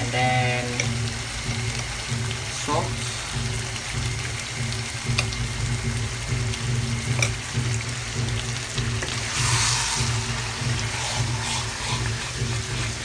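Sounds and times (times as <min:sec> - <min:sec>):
gravy sizzling and bubbling in wok: 0:00.0 - 0:13.0.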